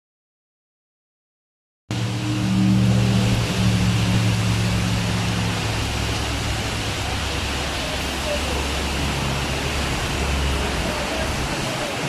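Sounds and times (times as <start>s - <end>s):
heavy rain hissing: 1.9s - 12.0s
vehicle engine hum: 1.9s - 12.0s.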